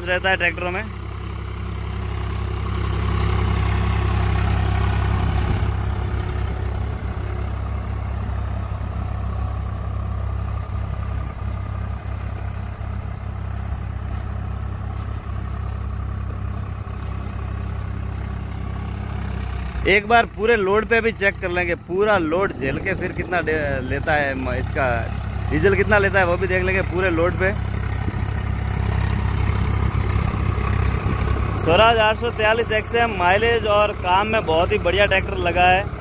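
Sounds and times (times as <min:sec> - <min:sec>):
tractor diesel engine under load: 0:00.0 - 0:36.0.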